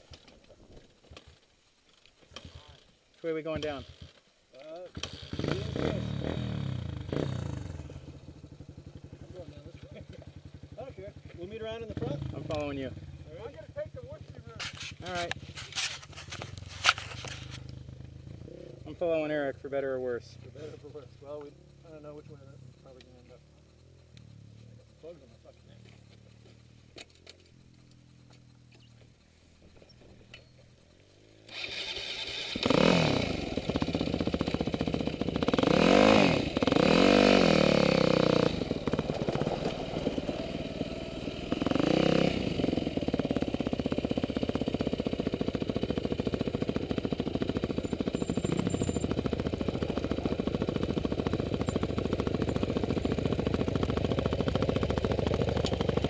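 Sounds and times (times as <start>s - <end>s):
dirt bike engine revving: 2.3s - 4.2s, 4.8s - 56.0s.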